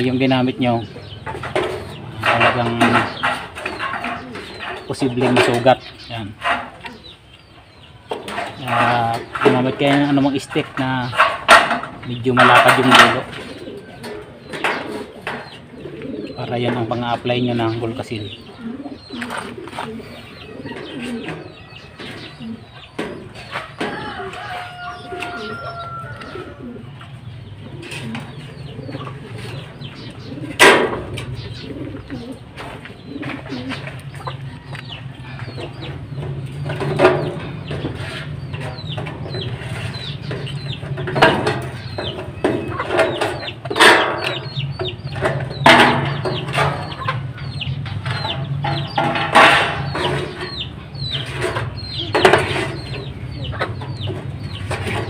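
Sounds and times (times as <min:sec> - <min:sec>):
taps and scrapes on metal gutter: 0:00.0 - 0:07.2, 0:08.1 - 0:20.0, 0:27.6 - 0:34.8, 0:35.5 - 0:55.0
birds calling: 0:00.0 - 0:55.0.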